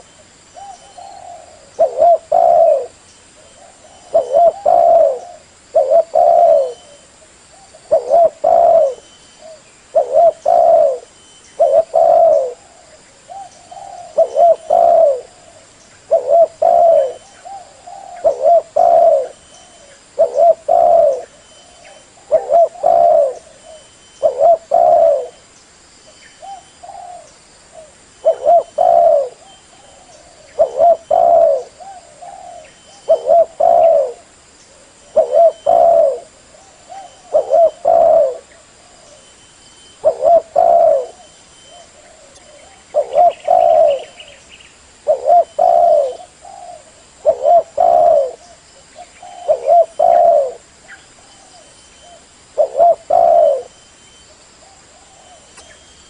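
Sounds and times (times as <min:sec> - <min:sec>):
dove cooing: 0:00.0 - 0:25.5, 0:26.4 - 0:44.4, 0:45.0 - 0:53.8, 0:54.6 - 0:56.0.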